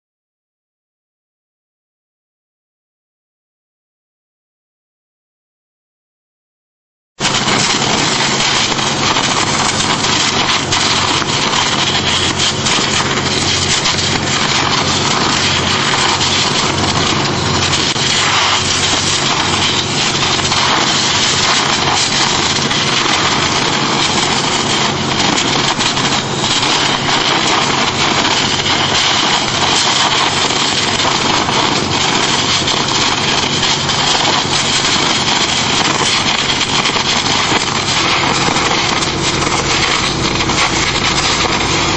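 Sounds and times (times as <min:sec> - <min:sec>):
high-pressure water jet hissing: 0:07.2 - 0:41.9
pump engine drone: 0:07.2 - 0:41.9.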